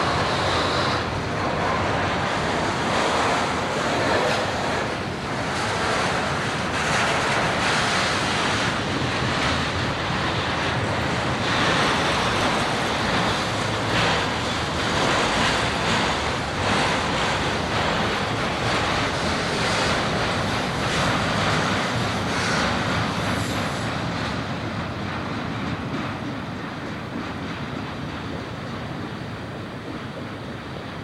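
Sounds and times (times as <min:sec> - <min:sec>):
freight train cars rolling: 0:00.0 - 0:31.0
wind buffeting microphone: 0:00.0 - 0:31.0.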